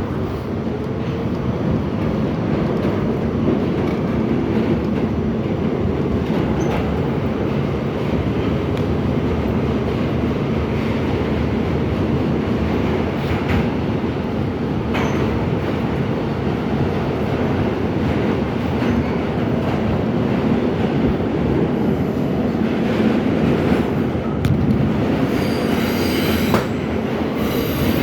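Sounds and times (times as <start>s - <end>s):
subway wheels rumbling on track: 0.0s - 28.0s
rail joint clicks: 0.6s - 10.2s, 12.0s - 21.0s, 22.4s - 28.0s.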